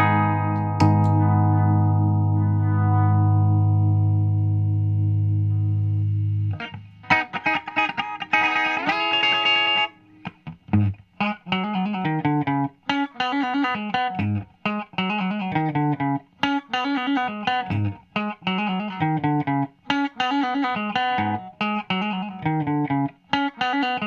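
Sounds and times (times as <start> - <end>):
electric guitar riff: 0.0 - 24.0.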